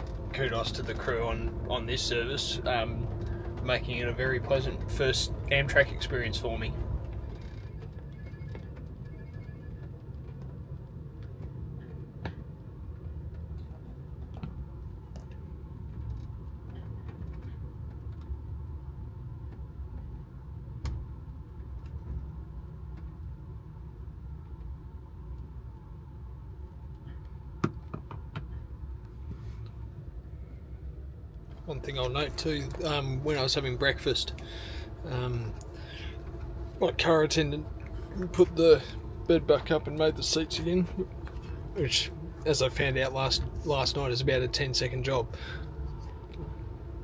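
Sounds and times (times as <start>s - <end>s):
train car rumble: 0.0s - 47.0s.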